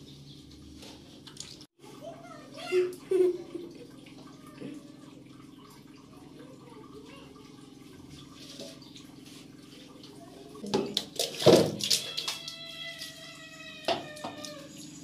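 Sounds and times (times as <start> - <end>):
water trickling onto tiled floor: 2.6 - 15.0.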